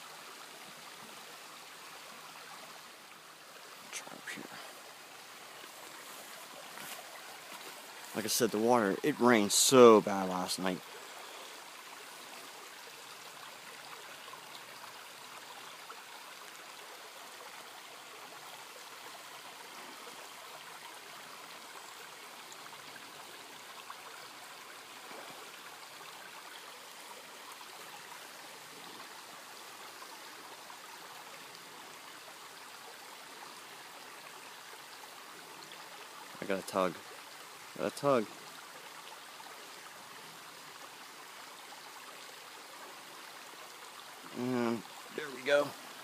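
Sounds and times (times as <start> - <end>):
creek water flowing: 0.0 - 46.0.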